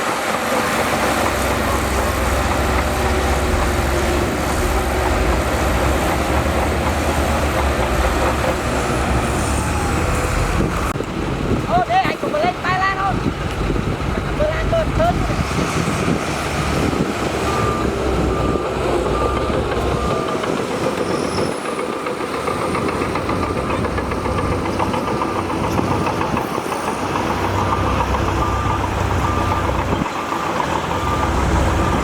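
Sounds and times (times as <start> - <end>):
diesel earthmoving machinery running: 0.0 - 32.0
reversing alarm beeping: 0.3 - 10.7, 16.8 - 32.0.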